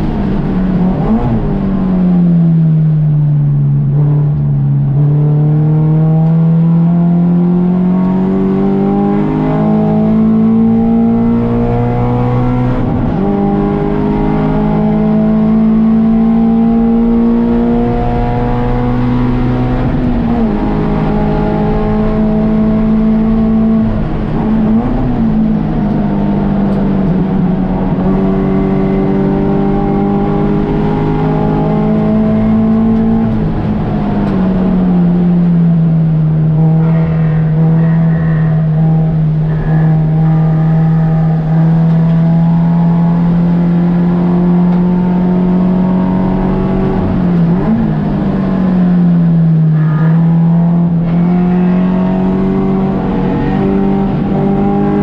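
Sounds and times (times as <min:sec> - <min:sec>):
race car engine running hard: 0:03.5 - 0:55.0.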